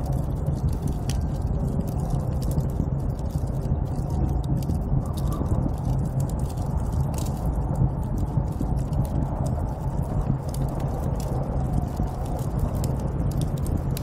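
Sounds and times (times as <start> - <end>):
small crackles and ticks: 0.0 - 14.0
snowstorm wind rumbling: 0.0 - 14.0.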